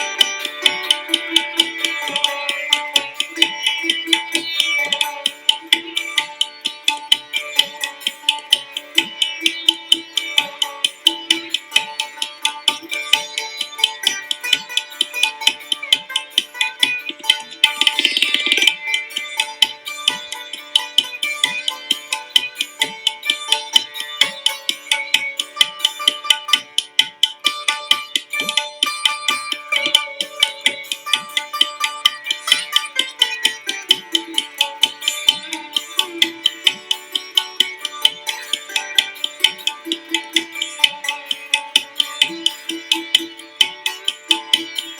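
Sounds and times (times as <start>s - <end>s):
fast percussion beat: 0.0s - 44.9s
plucked-string melody: 0.0s - 44.9s.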